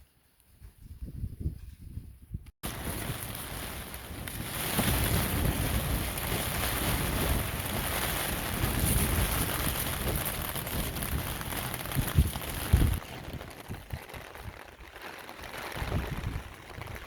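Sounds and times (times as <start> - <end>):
steady rain falling: 2.6 - 17.0.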